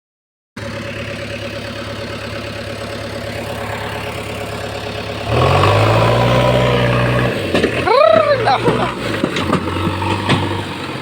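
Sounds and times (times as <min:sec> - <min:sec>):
diesel engine idling: 0:00.6 - 0:11.0.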